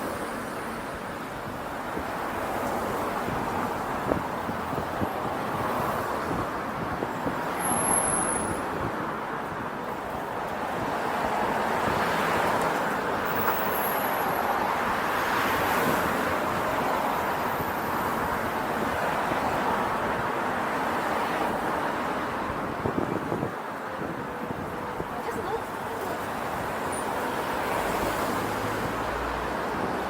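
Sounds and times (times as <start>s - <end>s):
city street traffic: 0.0s - 30.0s.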